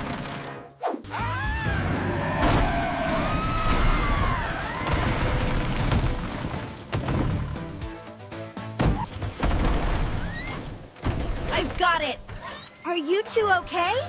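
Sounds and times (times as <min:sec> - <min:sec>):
dramatic background music: 0:00.0 - 0:11.4.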